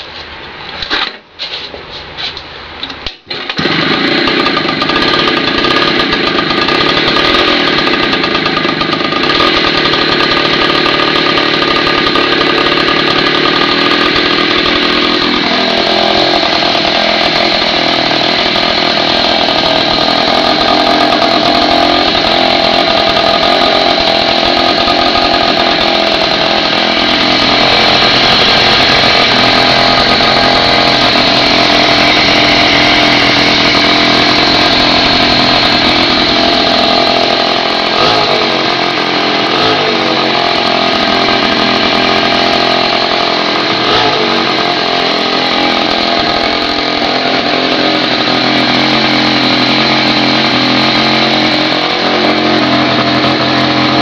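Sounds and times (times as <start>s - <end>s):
small motorcycle engine running: 3.3s - 54.0s.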